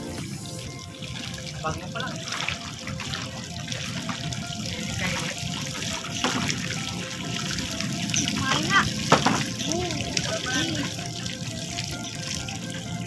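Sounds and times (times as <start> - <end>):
sea water splashing and lapping: 0.0 - 13.0
sharp water splashes: 0.0 - 13.0.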